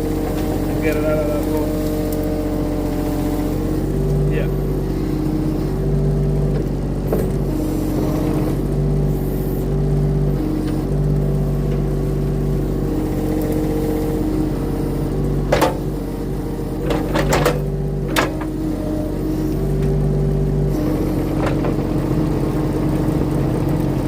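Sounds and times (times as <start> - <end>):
earthmoving machine engine running: 0.0 - 24.0.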